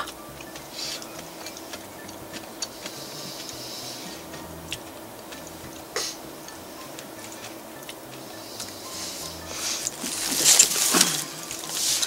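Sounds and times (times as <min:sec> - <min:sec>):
soft hiss: 0:00.0 - 0:12.0
steady low hum: 0:00.0 - 0:12.0.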